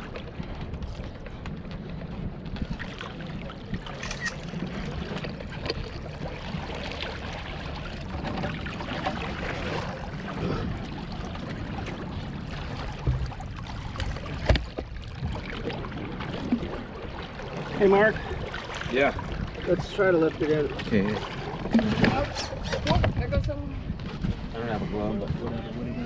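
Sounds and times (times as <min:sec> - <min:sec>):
water moving against hull: 0:00.0 - 0:26.0.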